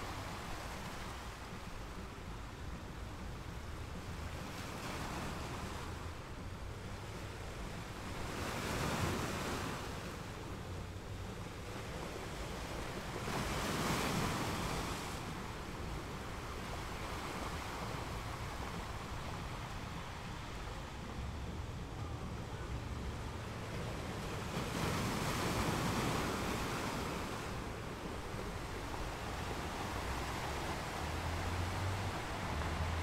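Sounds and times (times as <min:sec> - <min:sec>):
wind and surf rushing: 0:00.0 - 0:33.0.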